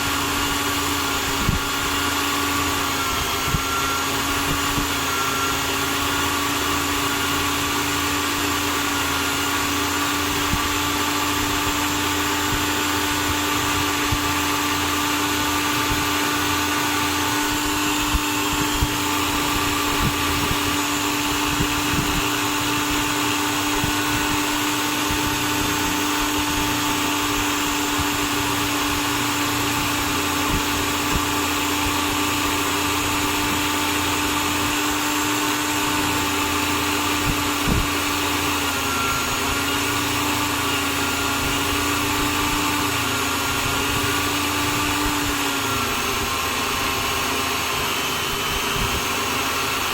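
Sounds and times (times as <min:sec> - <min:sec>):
electric drill motor whining: 0:00.0 - 0:49.9.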